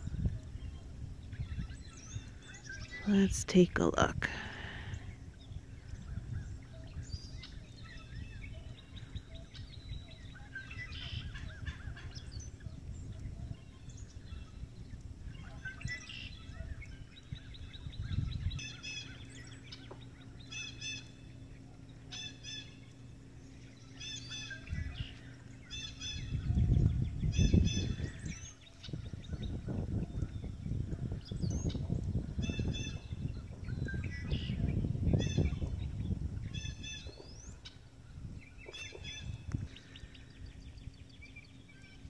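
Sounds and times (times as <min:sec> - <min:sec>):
birds calling: 0:00.0 - 0:42.0
low rumbling background noise: 0:00.0 - 0:42.0.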